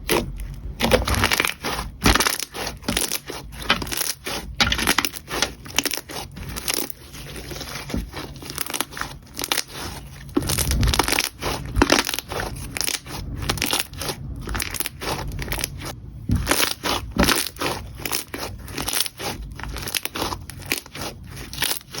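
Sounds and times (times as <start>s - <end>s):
slime crackling and popping: 0.0s - 22.0s.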